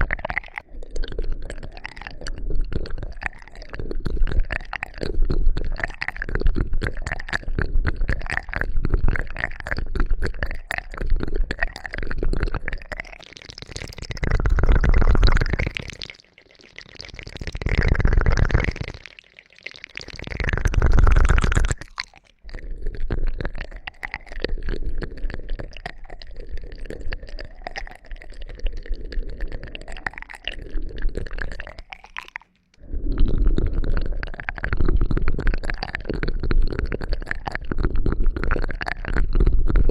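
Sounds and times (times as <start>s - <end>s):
crackling and clicking: 0.0s - 39.9s.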